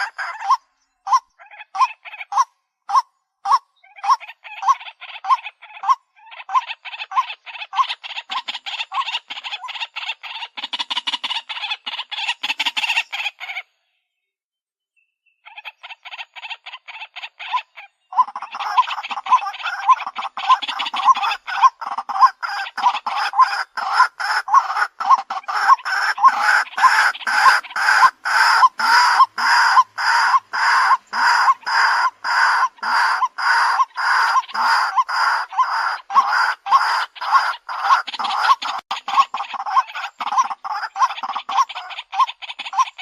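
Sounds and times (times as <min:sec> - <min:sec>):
waterhen calling: 0:00.0 - 0:13.7, 0:15.4 - 0:43.0.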